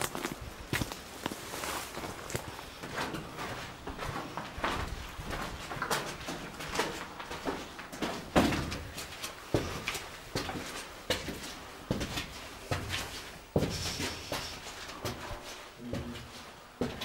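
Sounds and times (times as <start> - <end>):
footsteps on concrete steps: 0.0 - 17.0.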